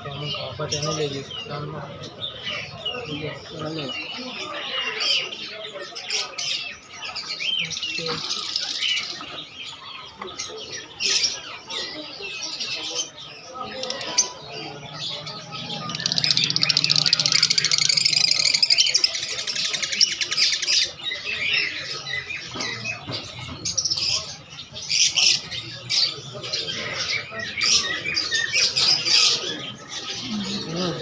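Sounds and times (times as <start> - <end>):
caged birds chirping and squawking: 0.0 - 31.0.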